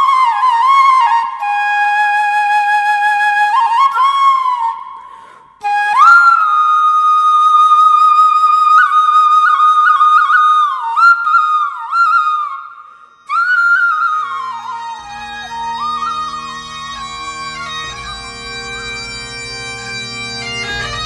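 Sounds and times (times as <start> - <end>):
solo flute melody: 0.0 - 21.0.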